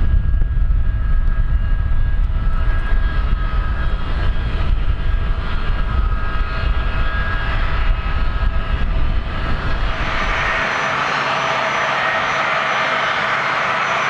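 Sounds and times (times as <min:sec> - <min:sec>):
low rumble: 0:00.0 - 0:12.5
jet engines whining: 0:00.0 - 0:14.0.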